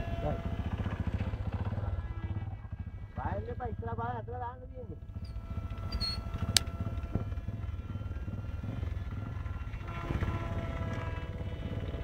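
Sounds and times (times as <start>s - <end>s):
electric motor whine: 0.0s - 3.8s, 4.8s - 12.0s
wind buffeting microphone: 0.0s - 12.0s.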